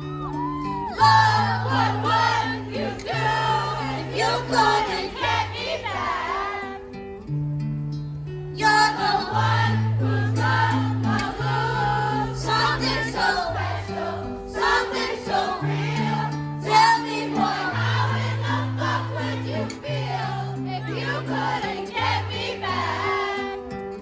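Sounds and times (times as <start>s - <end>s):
layered singing voices: 0.8s - 7.0s, 8.6s - 24.0s.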